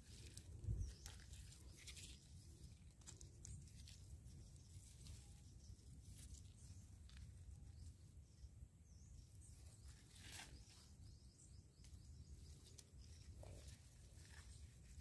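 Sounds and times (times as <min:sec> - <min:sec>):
leaves rustling: 0:00.0 - 0:08.3, 0:09.4 - 0:15.0.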